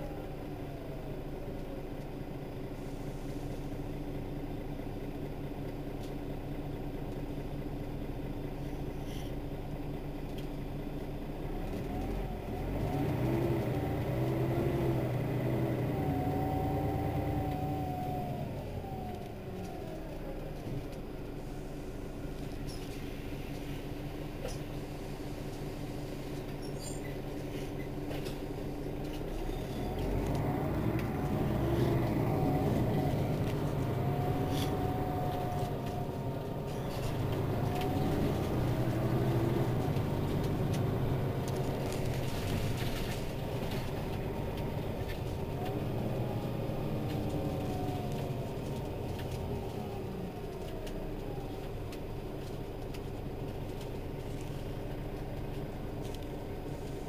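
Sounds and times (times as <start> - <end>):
bus engine idling: 0.0 - 57.0
engine whine: 0.0 - 57.0.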